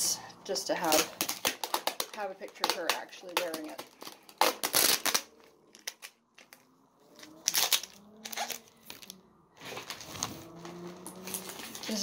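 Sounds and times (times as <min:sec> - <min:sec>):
plastic wrap crinkling: 0:00.8 - 0:12.0.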